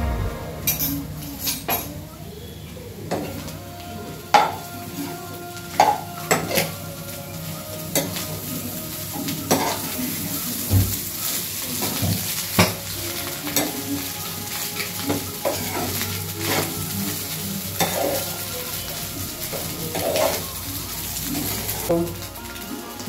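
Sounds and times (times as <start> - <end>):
rice sizzling in a frying pan: 2.4 - 23.0.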